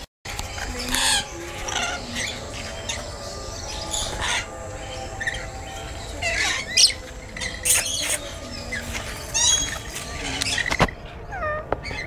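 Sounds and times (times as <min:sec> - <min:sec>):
lorikeets screeching and chattering: 0:00.3 - 0:12.0.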